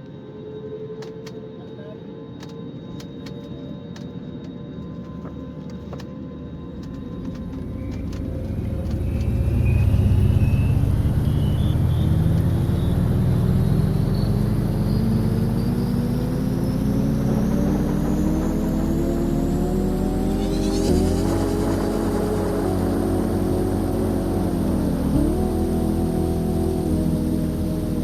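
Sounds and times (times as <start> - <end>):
airliner engines spooling up: 0.0 - 28.0.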